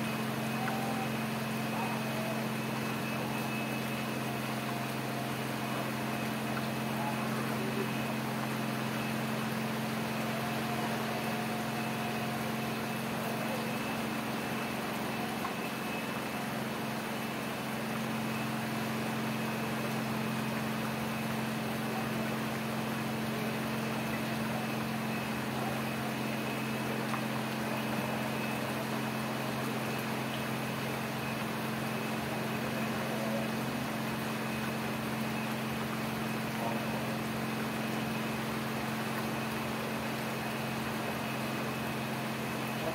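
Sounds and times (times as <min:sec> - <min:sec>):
heavy rain falling: 0:00.0 - 0:42.9
low machine hum: 0:00.0 - 0:42.9.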